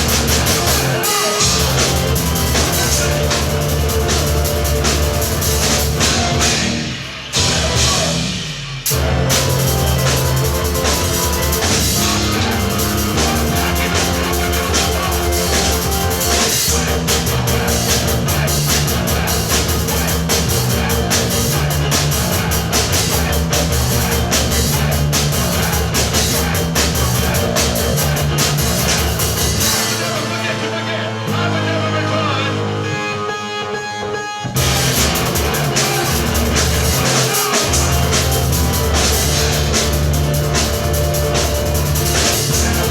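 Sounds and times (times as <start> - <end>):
stepping bass line: 0.0 - 30.2, 34.6 - 42.9
drums: 0.0 - 42.9
rock band playing: 0.0 - 42.9.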